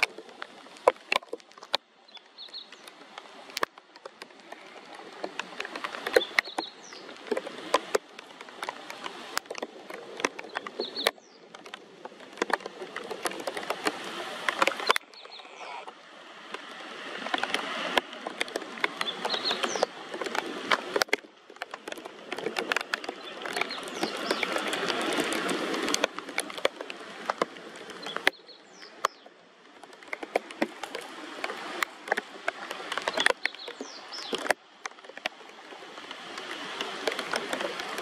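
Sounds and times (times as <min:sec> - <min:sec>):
flowing water: 0:00.0 - 0:38.0
rain hiss: 0:00.0 - 0:38.0.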